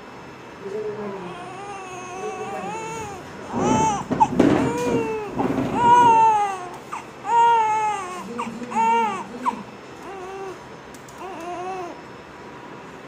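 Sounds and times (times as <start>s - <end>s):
newborn baby crying: 1.2s - 12.0s.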